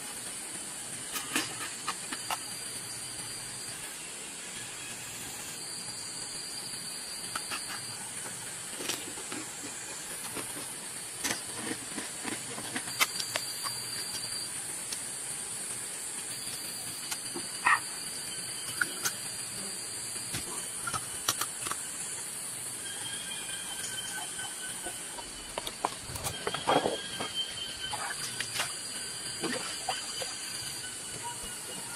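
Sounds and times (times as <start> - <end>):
insects buzzing: 0.0 - 31.9.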